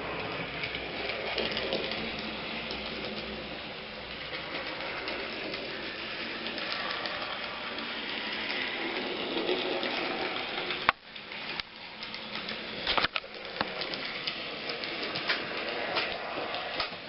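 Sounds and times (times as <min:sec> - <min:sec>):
model train motor whir: 0:00.0 - 0:17.0.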